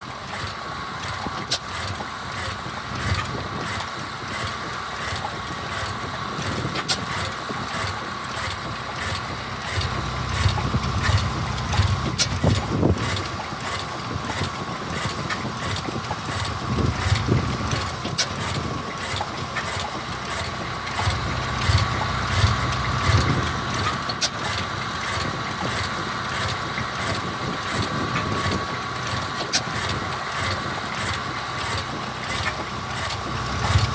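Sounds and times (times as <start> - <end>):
stationary engine running: 0.0 - 33.9
sharp regular clicks: 0.4 - 33.9.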